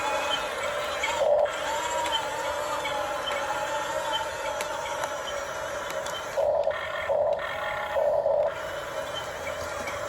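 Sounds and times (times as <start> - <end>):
model excavator motors whining: 0.0 - 10.0.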